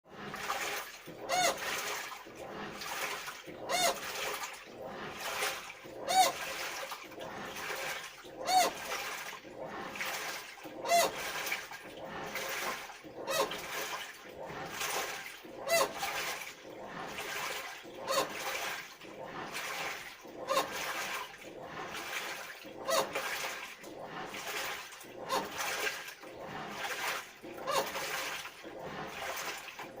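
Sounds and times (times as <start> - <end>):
washing machine water sloshing: 0.0 - 30.0
loud squeak from washing machine: 0.3 - 29.9.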